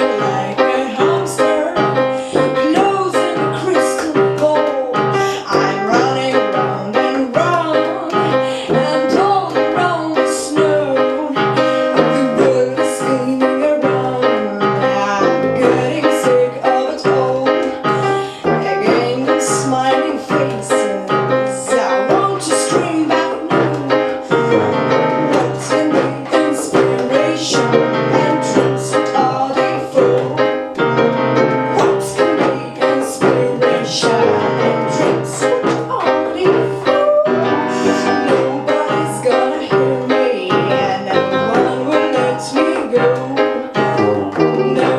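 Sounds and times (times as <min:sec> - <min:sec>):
keyboard playing: 0:00.0 - 0:44.9
person singing: 0:00.0 - 0:44.9.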